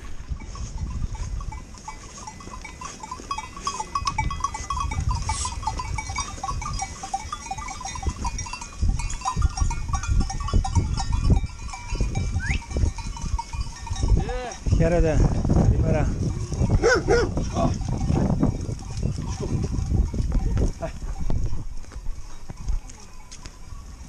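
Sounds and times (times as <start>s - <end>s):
sheep bells clinking: 0.0s - 24.0s.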